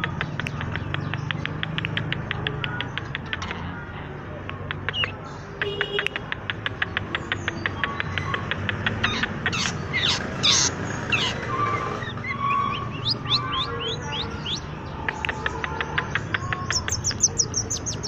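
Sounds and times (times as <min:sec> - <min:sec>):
bird clicking notes: 0:00.0 - 0:03.6, 0:04.4 - 0:11.4, 0:12.8 - 0:18.0.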